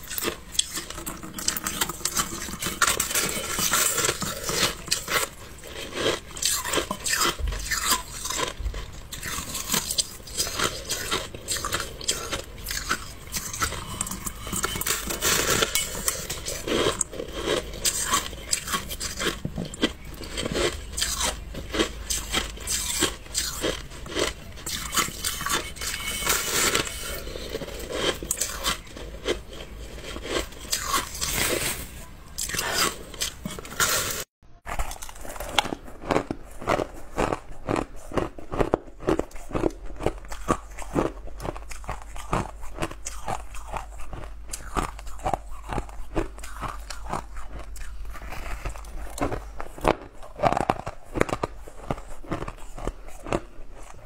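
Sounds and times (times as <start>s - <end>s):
ice crunching being chewed: 0.0s - 54.0s.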